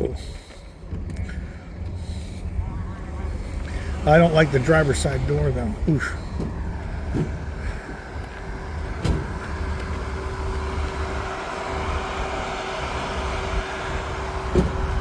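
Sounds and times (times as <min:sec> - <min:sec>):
steady hum: 0:00.0 - 0:15.0
truck engine rumbling: 0:00.0 - 0:15.0.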